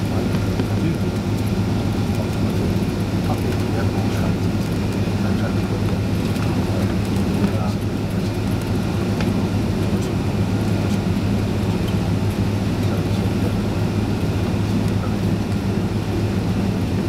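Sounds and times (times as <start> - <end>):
aircraft cabin engine drone: 0.0 - 17.0.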